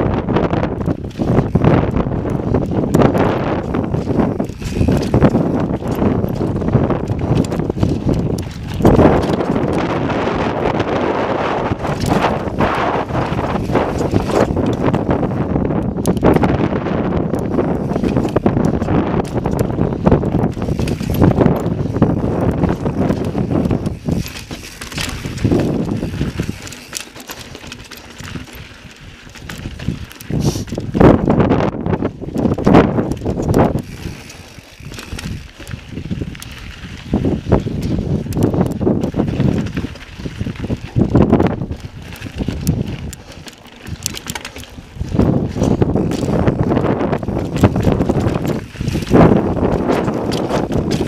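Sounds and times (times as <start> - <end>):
bike knocking and rattling: 0.0 - 51.0
bike tyres rolling on rock: 0.0 - 51.0
wind buffeting microphone: 0.0 - 51.0.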